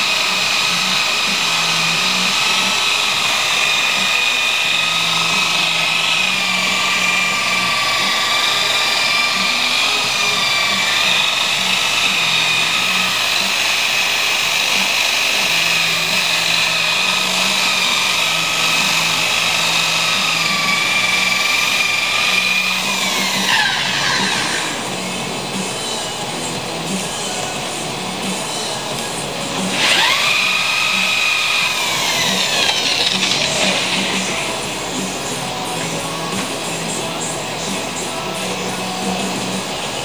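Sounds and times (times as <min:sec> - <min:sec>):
electric polisher whining: 0:00.0 - 0:40.0.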